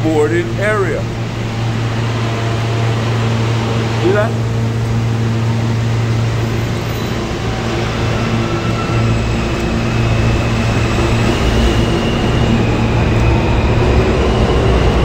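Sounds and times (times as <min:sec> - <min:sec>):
faint high whine: 0:00.0 - 0:15.0
subway train rumbling past: 0:00.0 - 0:15.0.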